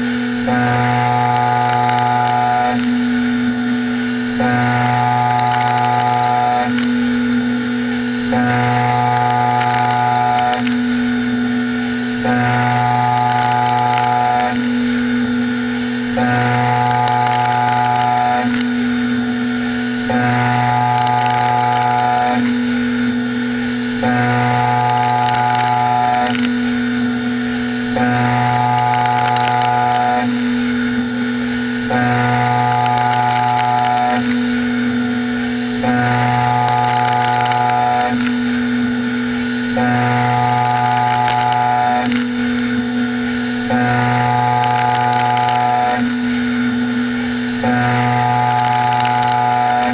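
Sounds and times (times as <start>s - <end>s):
end mill cutting metal: 0.0s - 49.9s
low machine hum: 0.0s - 49.9s.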